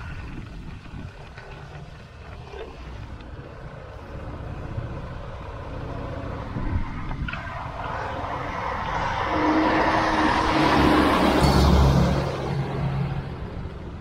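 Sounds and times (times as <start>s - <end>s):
motorcycle engine rumble: 0.0s - 14.0s
wind noise on microphone: 0.0s - 14.0s.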